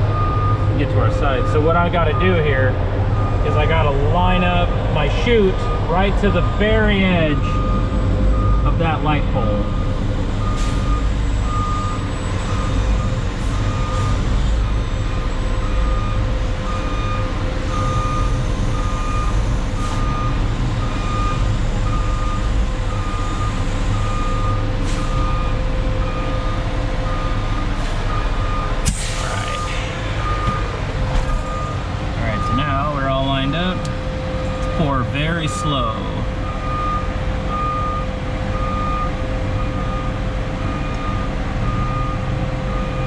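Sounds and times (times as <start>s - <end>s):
reversing alarm beeping: 0.0s - 43.0s.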